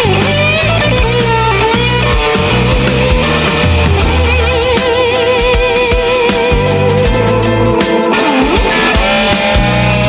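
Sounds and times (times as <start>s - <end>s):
fuzz electric guitar lead: 0.0s - 10.0s.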